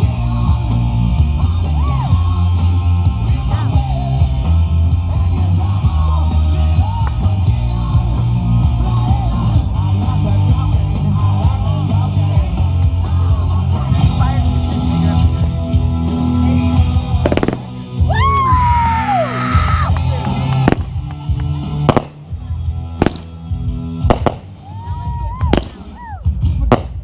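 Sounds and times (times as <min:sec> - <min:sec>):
rock music with guitar and singing: 0:00.0 - 0:27.0.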